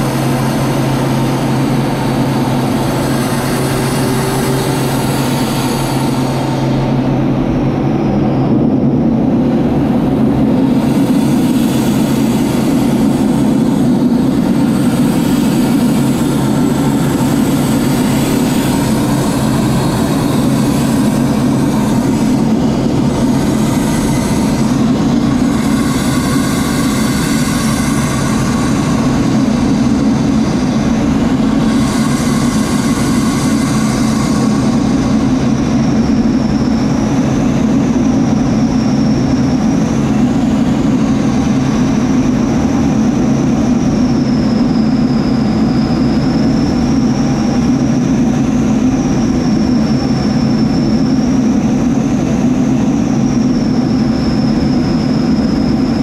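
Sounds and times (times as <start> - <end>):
aircraft engine drone: 0.0 - 56.0
faint high whine: 0.0 - 56.0
rushing air: 0.0 - 56.0.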